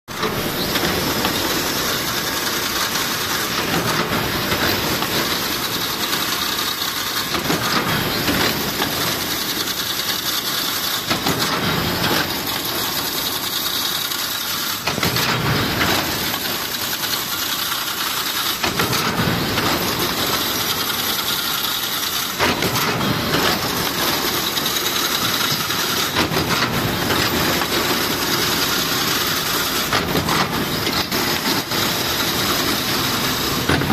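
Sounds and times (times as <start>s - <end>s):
fence weaving machine clatter: 0.2s - 33.9s.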